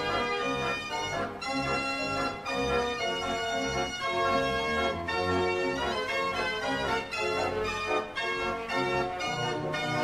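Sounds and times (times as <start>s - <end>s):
organ-like keyboard chords: 0.0s - 10.0s.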